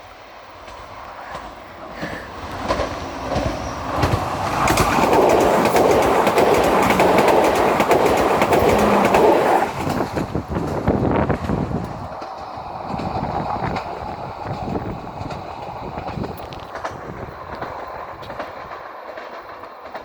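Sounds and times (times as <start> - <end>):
train wheels clattering over rails: 0.5 - 20.0.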